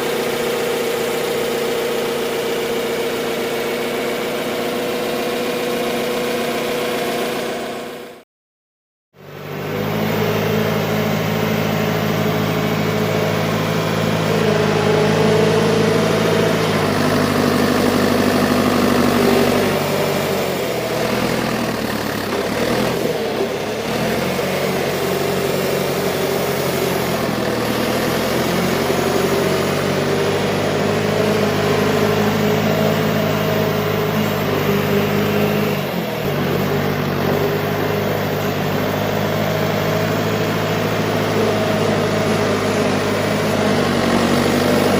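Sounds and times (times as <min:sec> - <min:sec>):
diesel engine running: 0:00.0 - 0:08.2, 0:09.2 - 0:44.9.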